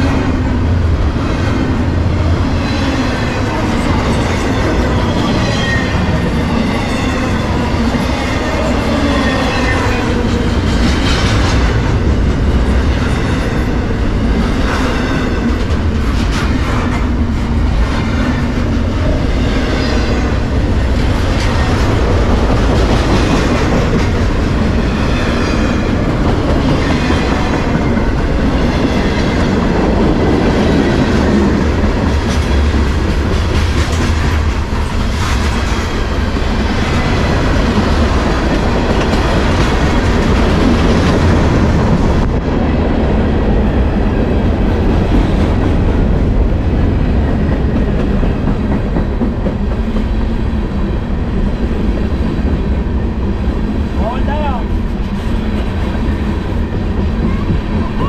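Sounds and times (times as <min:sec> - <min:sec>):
freight train cars rolling past: 0:00.0 - 0:58.0.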